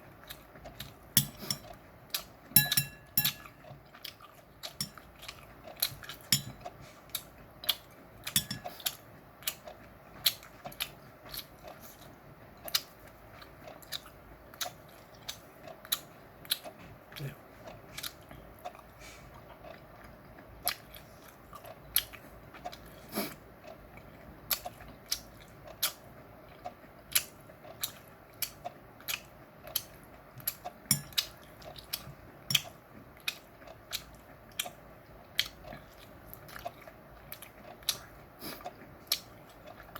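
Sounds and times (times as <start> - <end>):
person chewing meat: 0.0 - 39.9.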